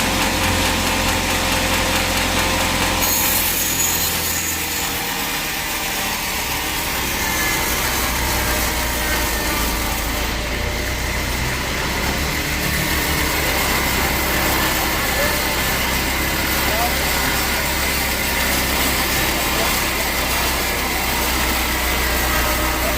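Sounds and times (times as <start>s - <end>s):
saw cutting wood: 0.0s - 22.9s.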